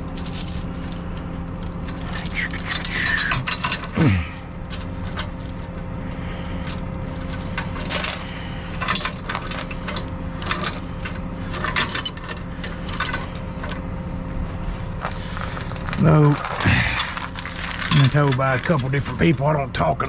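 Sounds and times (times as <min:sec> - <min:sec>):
chain clanking and rattling: 0:00.0 - 0:13.8, 0:15.0 - 0:19.3
truck engine idling: 0:00.0 - 0:19.3.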